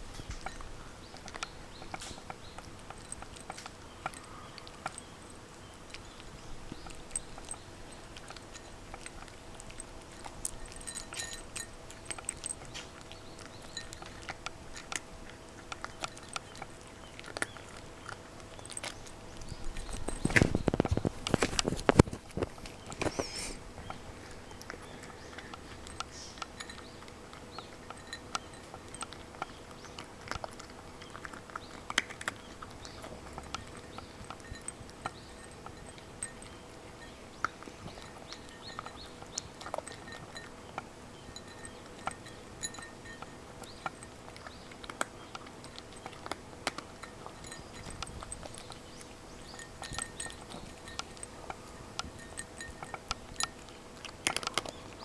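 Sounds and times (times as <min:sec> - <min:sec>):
cat crunching dry kibble: 0:00.0 - 0:55.0.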